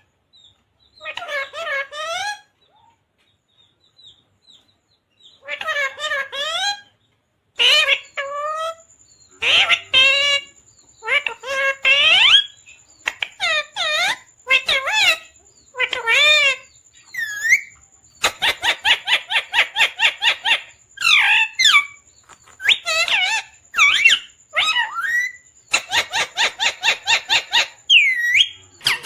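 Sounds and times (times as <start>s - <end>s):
parrot squawking and calling: 0.8s - 3.0s, 5.2s - 7.0s, 7.6s - 29.0s.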